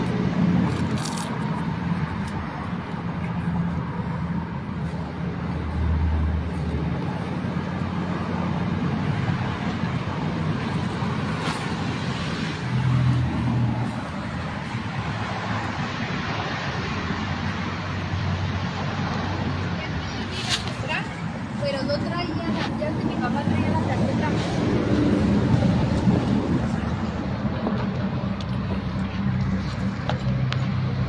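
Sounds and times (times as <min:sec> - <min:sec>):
low engine hum: 0:00.0 - 0:31.0
road noise from passing cars: 0:00.0 - 0:31.0.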